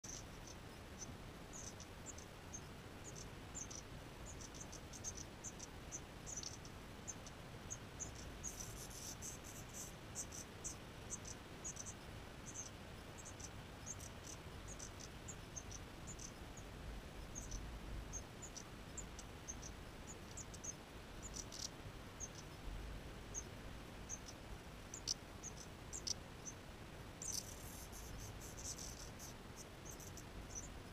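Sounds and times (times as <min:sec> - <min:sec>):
faint low rumble: 0:00.0 - 0:30.9
small birds chirping: 0:00.0 - 0:30.9.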